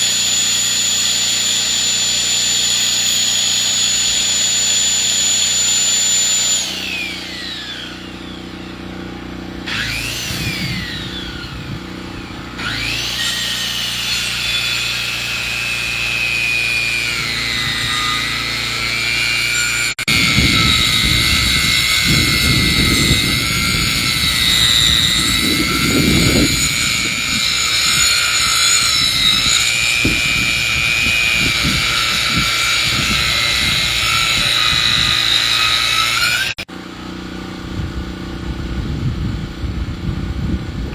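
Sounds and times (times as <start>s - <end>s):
engine-driven saw milling log: 0.0s - 39.0s.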